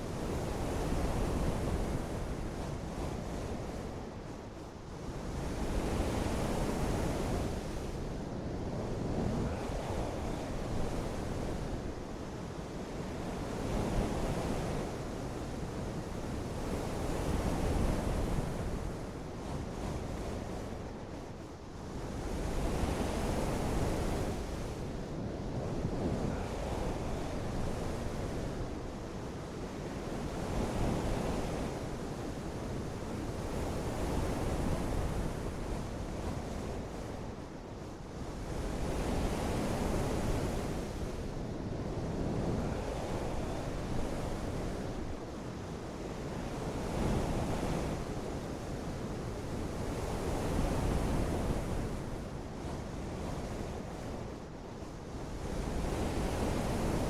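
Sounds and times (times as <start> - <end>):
gusting wind: 0.0 - 57.0.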